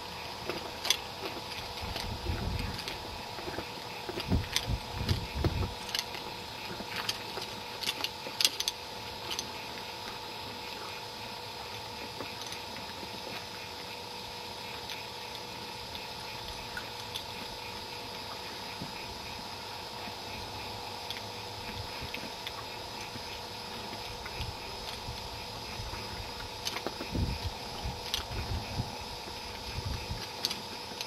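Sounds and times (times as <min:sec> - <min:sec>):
constant hum: 0:00.0 - 0:31.0
steady hiss: 0:00.0 - 0:31.0.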